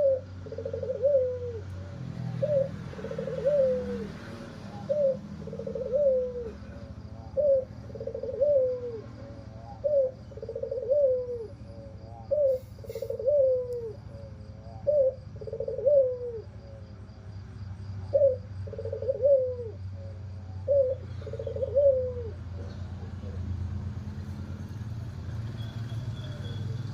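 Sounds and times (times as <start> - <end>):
dove cooing: 0.0 - 17.0, 17.9 - 24.0.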